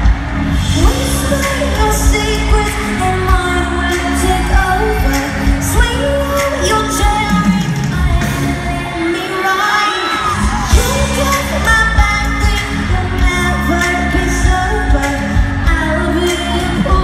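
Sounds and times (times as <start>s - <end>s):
women singing: 0.5s - 17.0s.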